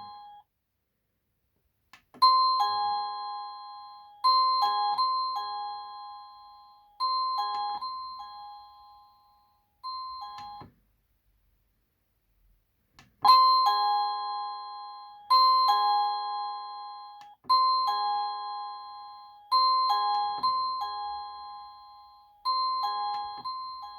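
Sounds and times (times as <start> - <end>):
electronic doorbell chime melody: 0.0 - 0.4, 2.2 - 10.8, 13.2 - 23.9.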